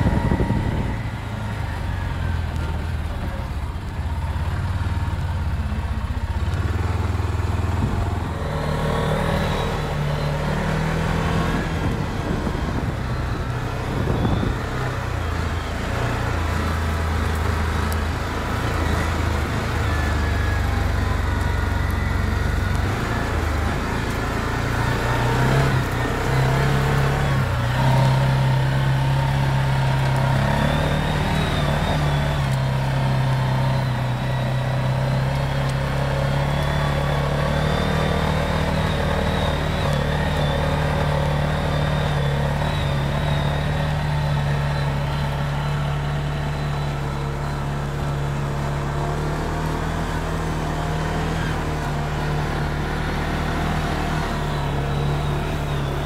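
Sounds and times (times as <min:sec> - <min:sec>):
four-wheeler engine running: 0:00.0 - 0:56.0.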